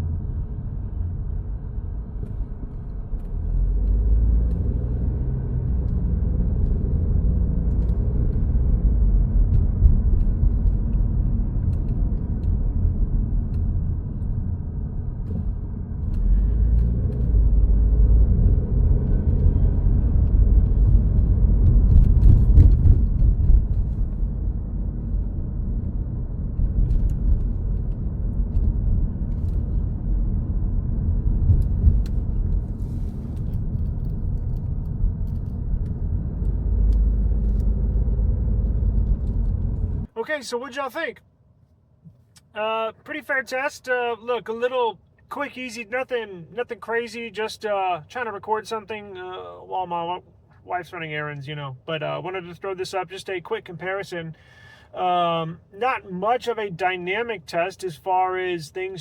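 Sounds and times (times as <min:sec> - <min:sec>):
low outdoor rumble: 0:00.0 - 0:59.0.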